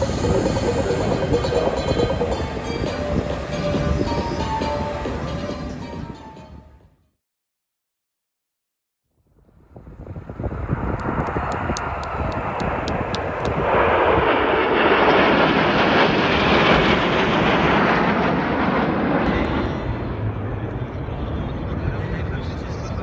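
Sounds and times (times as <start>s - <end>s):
jet engines flying past: 0.0s - 6.4s, 9.5s - 23.0s.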